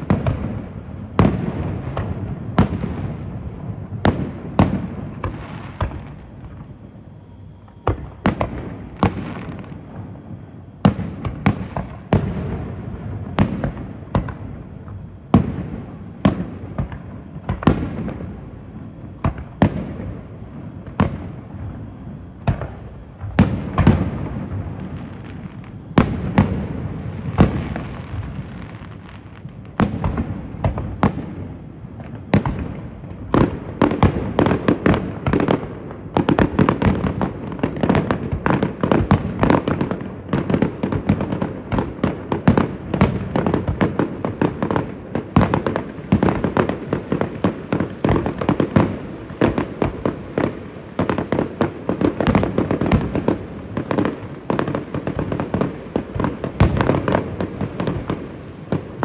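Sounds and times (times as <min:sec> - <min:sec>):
fireworks bursting and crackling: 0:00.0 - 0:07.0, 0:07.6 - 0:59.0.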